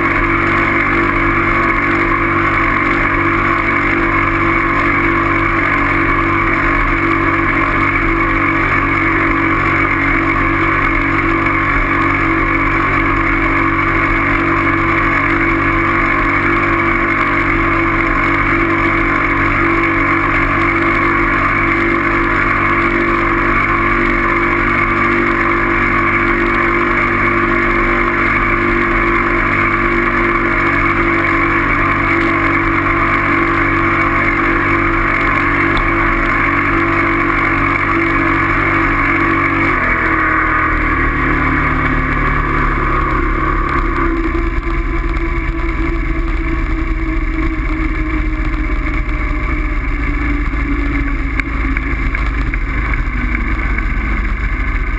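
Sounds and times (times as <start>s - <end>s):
vehicle engine running: 0.0s - 54.9s.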